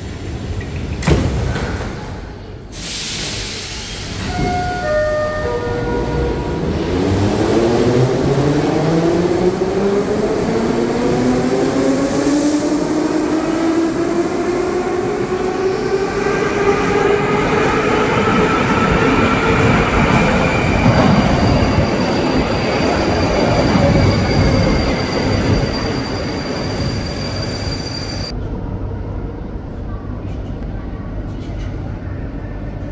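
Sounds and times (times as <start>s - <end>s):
metro train approaching: 2.0s - 32.9s.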